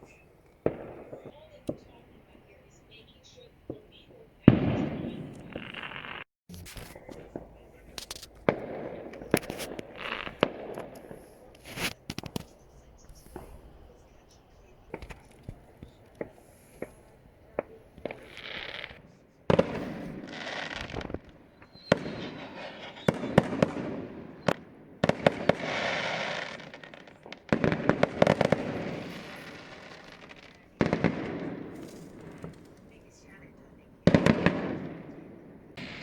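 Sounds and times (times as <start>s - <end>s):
small firework pops: 0.0s - 2.0s, 3.7s - 36.0s
fireworks bangs and crackle: 0.0s - 36.0s.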